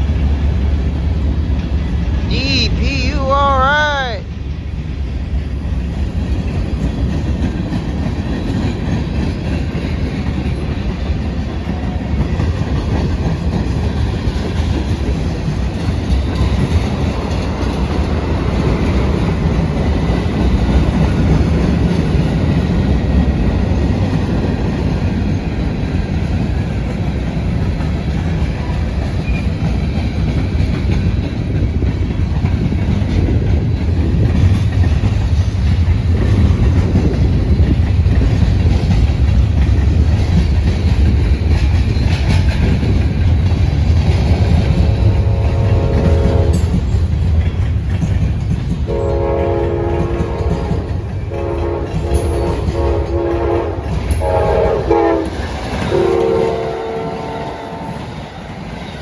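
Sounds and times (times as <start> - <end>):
freight train cars rolling past: 0.0 - 59.0.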